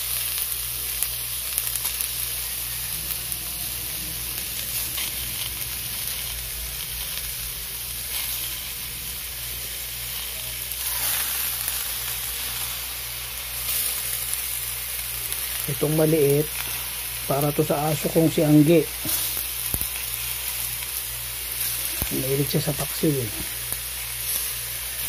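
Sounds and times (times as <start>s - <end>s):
wok sizzling: 0.0s - 25.0s.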